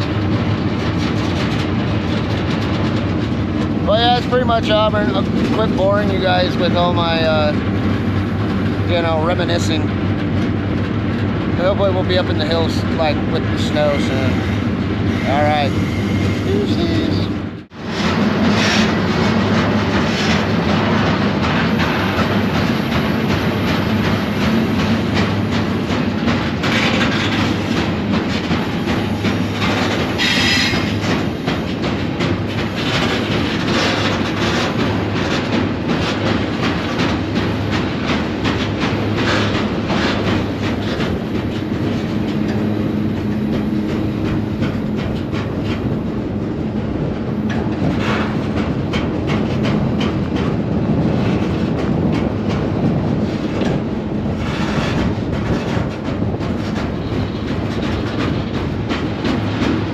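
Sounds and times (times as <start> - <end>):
train rattling and clanking: 0.0 - 59.9
train wheels rumbling on rail: 0.0 - 59.9.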